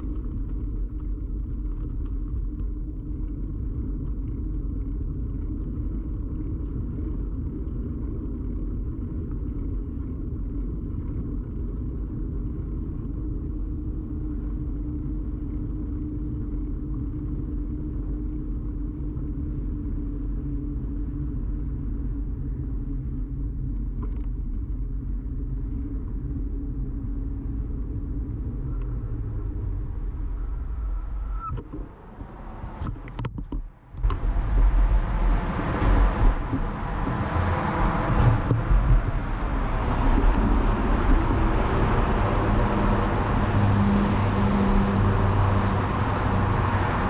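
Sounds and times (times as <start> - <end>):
bicycle rumble: 0.0 - 47.0.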